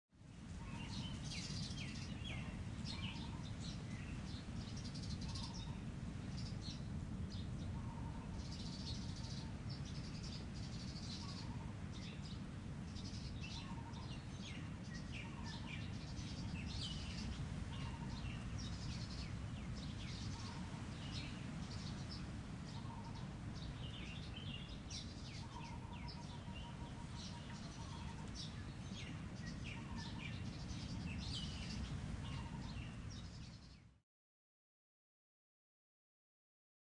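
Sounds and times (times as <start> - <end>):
birds chirping and trilling: 0.5 - 34.0.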